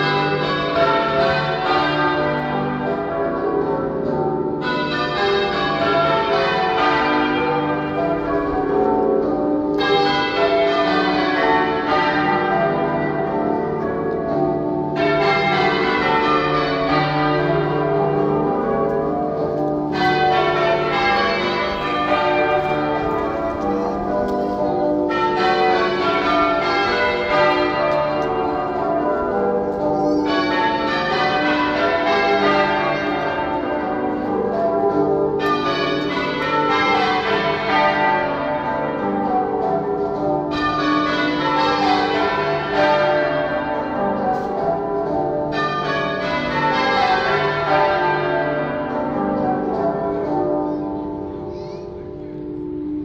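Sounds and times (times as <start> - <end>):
church bells change ringing: 0.0 - 53.0.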